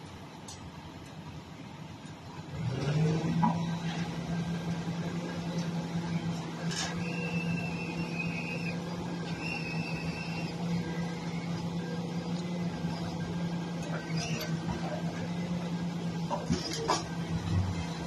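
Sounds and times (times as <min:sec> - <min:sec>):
truck engine revving: 0:02.5 - 0:18.0.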